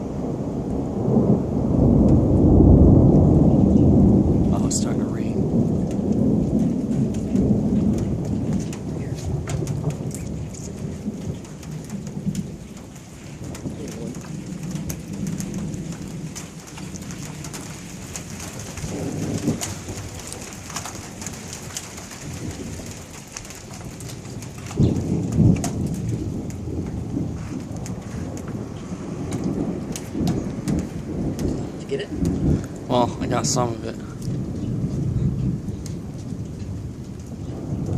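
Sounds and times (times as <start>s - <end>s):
low rumble of thunder: 0.0s - 37.9s
rain falling: 0.0s - 37.9s.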